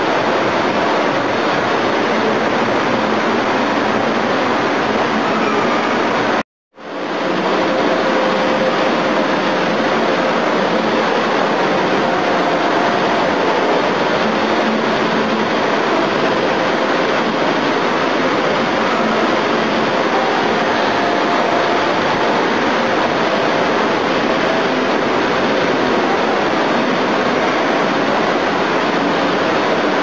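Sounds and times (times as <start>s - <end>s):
faint steady hum tones: 0.0s - 30.0s
steady rushing noise: 0.0s - 30.0s.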